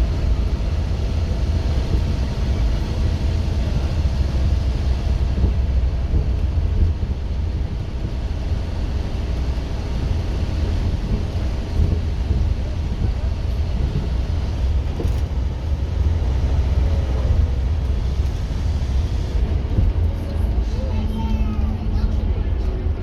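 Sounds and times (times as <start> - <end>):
bus diesel engine droning: 0.0 - 23.0.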